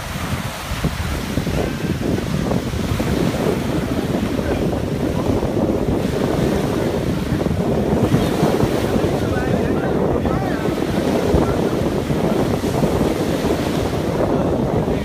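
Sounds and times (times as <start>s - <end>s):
breaking surf: 0.0s - 15.0s
jet ski engines: 0.0s - 15.0s
wind on microphone: 0.0s - 15.0s.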